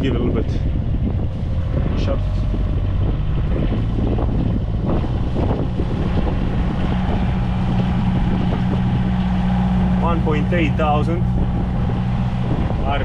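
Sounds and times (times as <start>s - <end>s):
diesel engine humming: 0.0s - 13.0s
wind buffeting microphone: 0.0s - 13.0s.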